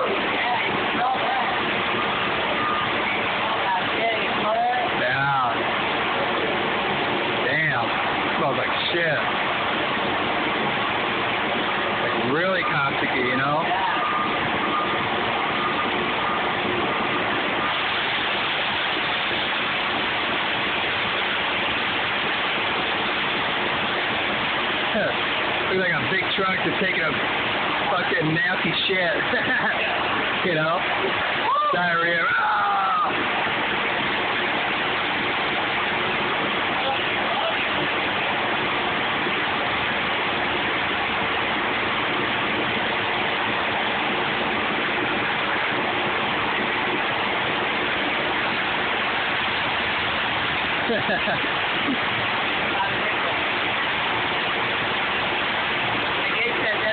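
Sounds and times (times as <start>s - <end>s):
truck discharging liquid: 0.0s - 56.9s.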